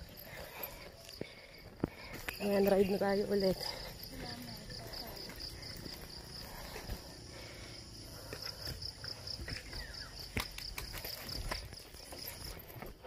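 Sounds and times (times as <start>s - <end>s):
insect chirping trill: 0.0s - 13.0s.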